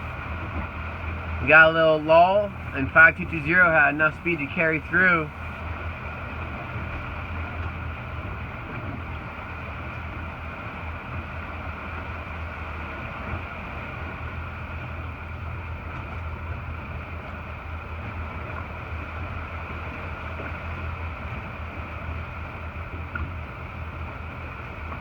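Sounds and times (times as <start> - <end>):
boat motor drone: 0.0 - 25.0
water noise: 0.0 - 25.0.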